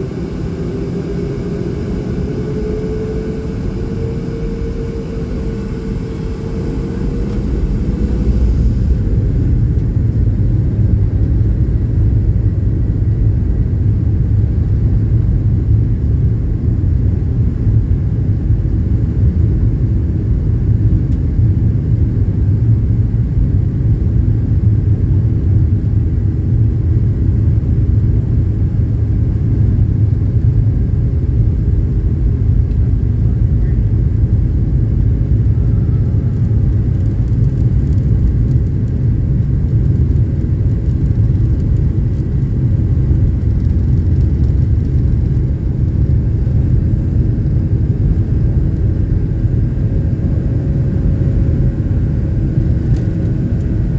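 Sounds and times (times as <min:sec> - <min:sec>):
airplane engines powering up: 0:00.0 - 0:53.9.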